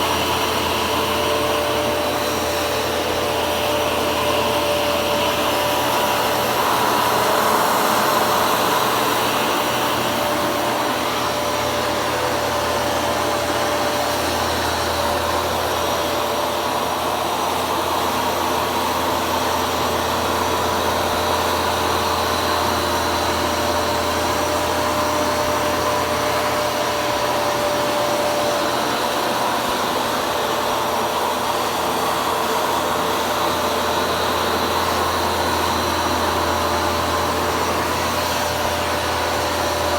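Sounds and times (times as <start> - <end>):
carpet shampooer motor whirring: 0.0 - 39.9.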